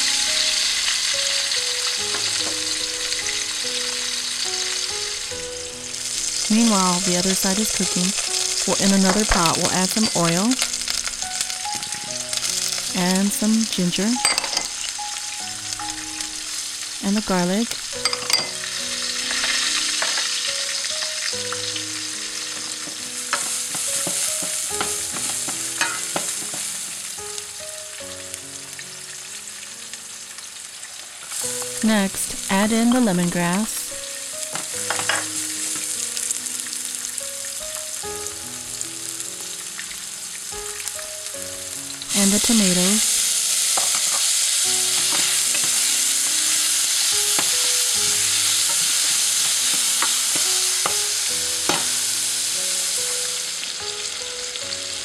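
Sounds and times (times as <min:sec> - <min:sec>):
fish deep-frying in oil: 0:00.0 - 0:55.0.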